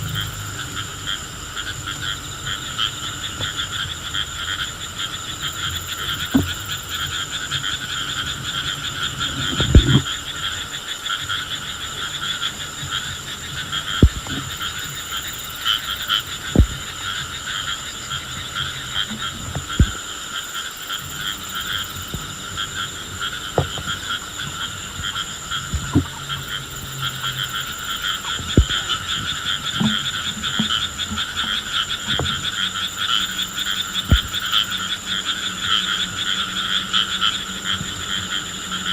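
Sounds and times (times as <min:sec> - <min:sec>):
frogs calling in chorus: 0:00.0 - 0:38.9.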